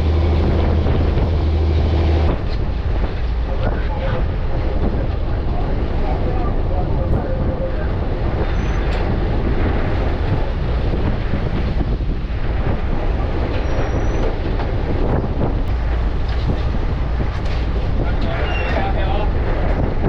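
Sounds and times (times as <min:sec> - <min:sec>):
boat engine low rumble: 0:00.0 - 0:20.0
wind buffeting microphone: 0:00.0 - 0:20.0.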